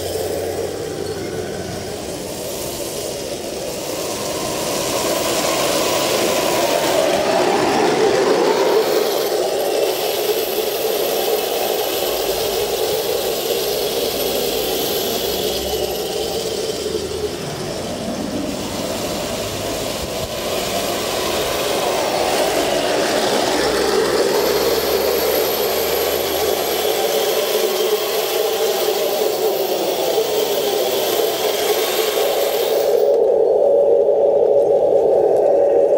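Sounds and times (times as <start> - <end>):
toy tank motor whine: 0.0 - 35.9.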